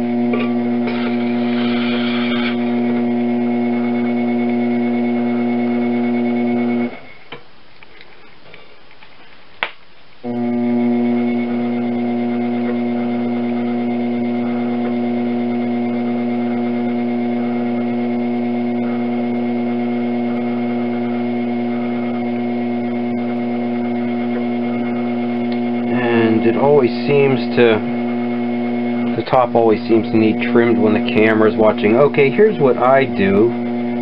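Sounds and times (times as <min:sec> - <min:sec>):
potter's wheel motor humming: 0:00.0 - 0:07.3, 0:10.2 - 0:34.0.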